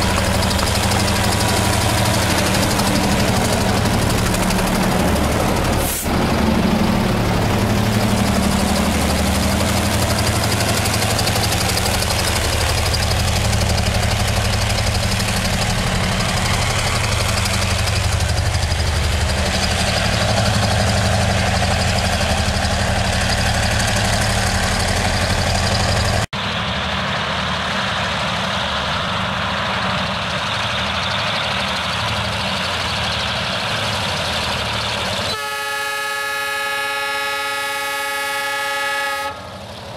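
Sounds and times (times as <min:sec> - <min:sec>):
diesel locomotive engine drone: 0:00.0 - 0:39.9
distant train rumble: 0:00.0 - 0:39.9.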